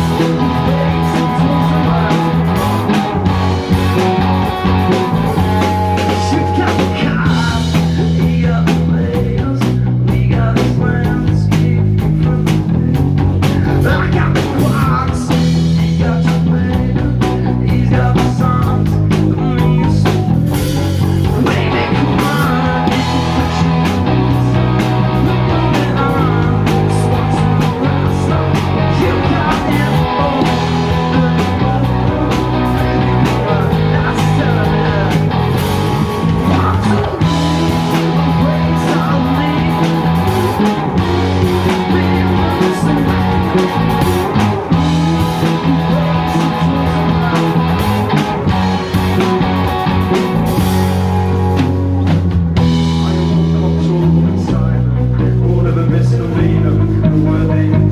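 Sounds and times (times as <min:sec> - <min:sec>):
lead vocal singing: 0:00.0 - 0:20.4, 0:21.1 - 0:50.7, 0:52.7 - 0:57.9
bass guitar: 0:00.0 - 0:57.9
drum kit beat: 0:00.0 - 0:57.9
electric guitars: 0:00.0 - 0:57.9.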